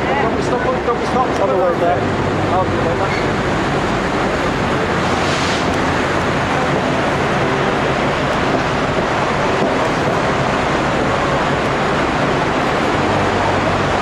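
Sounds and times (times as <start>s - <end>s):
moving train rushing: 0.0s - 14.0s.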